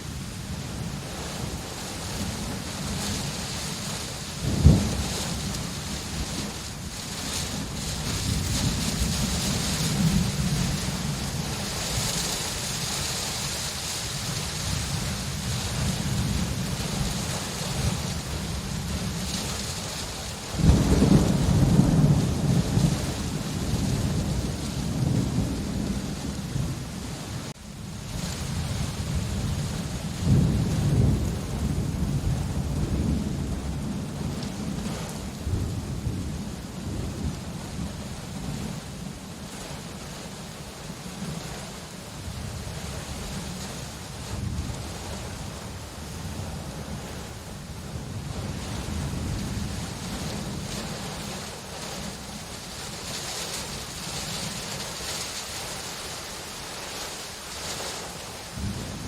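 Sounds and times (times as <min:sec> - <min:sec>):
thunder rumbling: 0:00.0 - 0:39.8, 0:42.3 - 0:55.9, 0:58.4 - 0:59.0
steady rain: 0:00.0 - 0:59.0.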